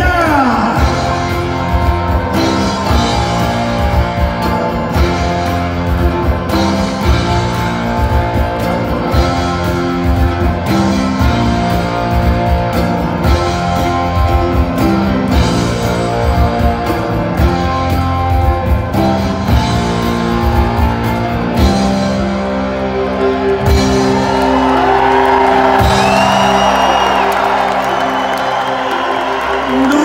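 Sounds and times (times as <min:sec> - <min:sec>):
live rock band playing: 0:00.0 - 0:30.0
crowd cheering and whooping: 0:00.4 - 0:17.9, 0:19.5 - 0:30.0.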